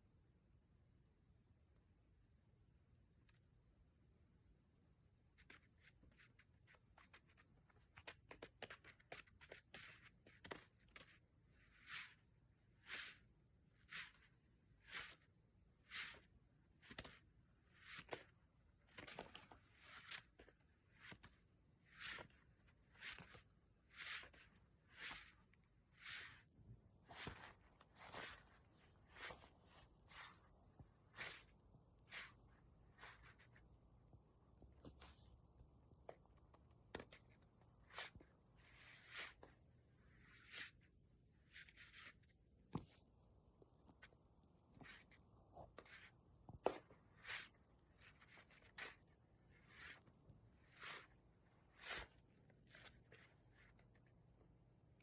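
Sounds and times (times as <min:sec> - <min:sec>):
toy rustling and scratching: 0:05.4 - 0:33.7, 0:34.8 - 0:54.1.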